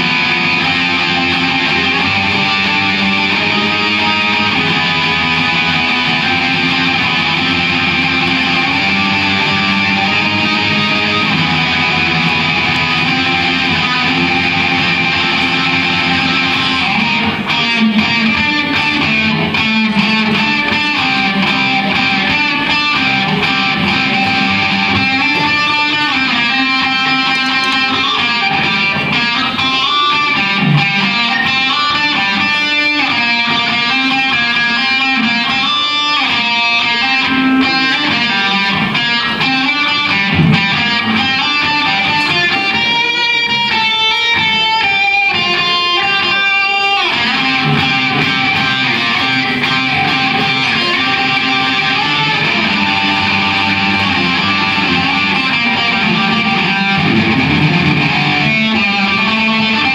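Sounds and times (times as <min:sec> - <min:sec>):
electric guitar melody: 0:00.0 - 0:59.9.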